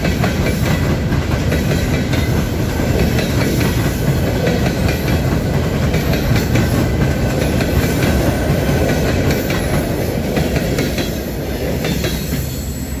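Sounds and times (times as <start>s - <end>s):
wheels clicking over rail joints: 0.0s - 12.4s
freight train rumbling past: 0.0s - 13.0s.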